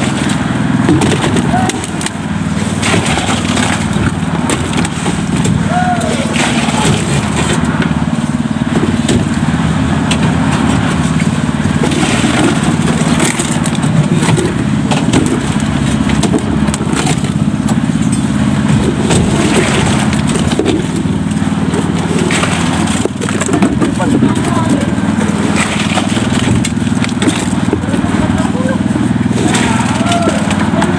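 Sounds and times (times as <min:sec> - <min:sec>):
concrete mixer engine running: 0:00.0 - 0:30.9
metal pails clanking and scraping: 0:00.0 - 0:30.9.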